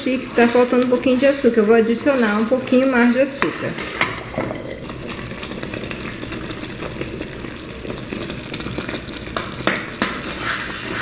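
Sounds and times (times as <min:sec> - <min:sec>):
thick pudding bubbling and popping: 0:00.0 - 0:11.0.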